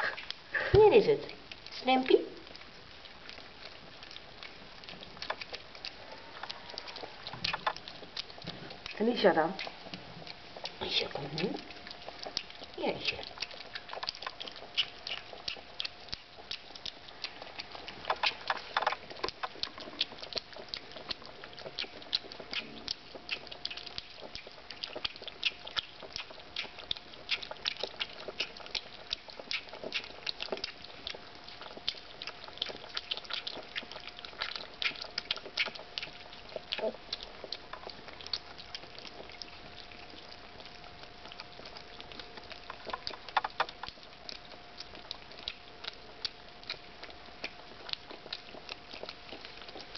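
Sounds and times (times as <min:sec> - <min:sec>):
faint steady hum: 0:00.0 - 0:49.9
puppies lapping from metal bowl: 0:03.7 - 0:49.9.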